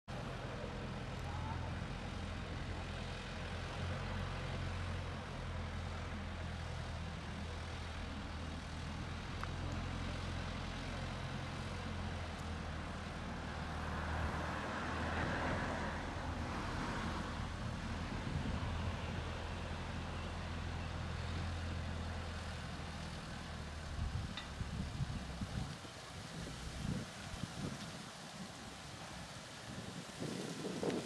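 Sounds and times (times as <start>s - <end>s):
diesel engine humming: 0.1s - 31.0s.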